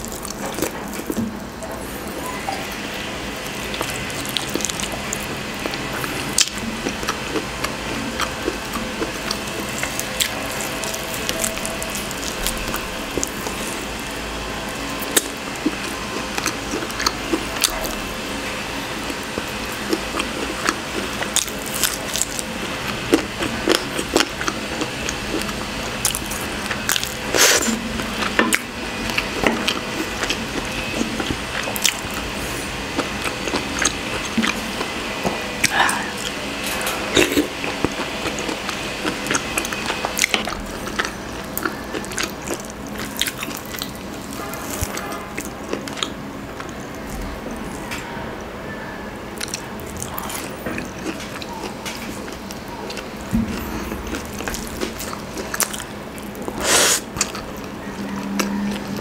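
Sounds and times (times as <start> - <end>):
wet chewing: 0.0 - 1.9, 2.7 - 48.0, 49.4 - 59.0.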